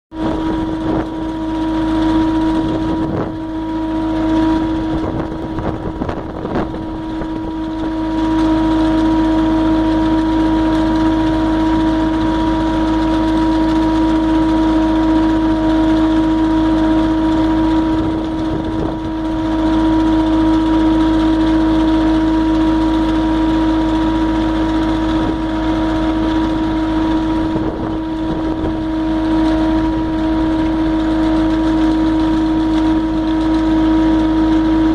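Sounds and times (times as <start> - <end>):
loader engine and hydraulics droning: 0.1 - 34.9.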